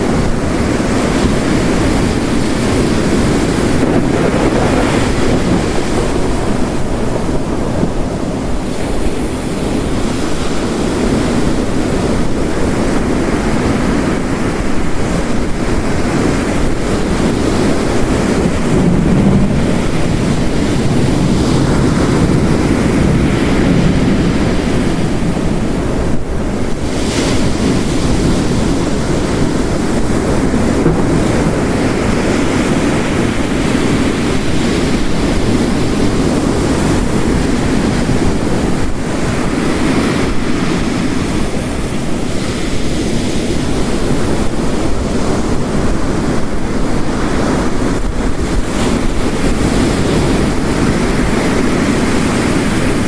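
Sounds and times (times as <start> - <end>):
heavy rain: 0.0 - 53.0
surf breaking on rocks: 0.0 - 53.0.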